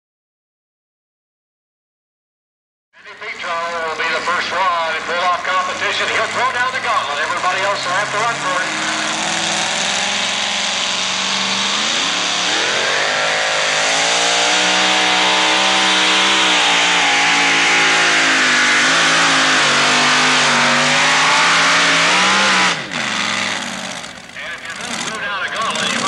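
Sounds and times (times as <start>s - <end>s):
truck engine at full throttle: 3.1s - 26.0s.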